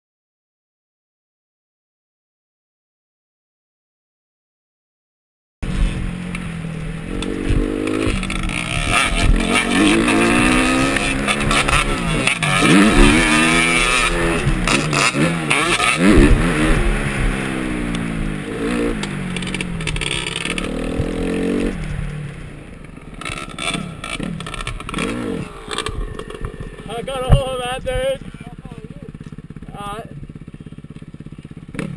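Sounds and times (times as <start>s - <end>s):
motocross engine revving: 5.6s - 31.9s.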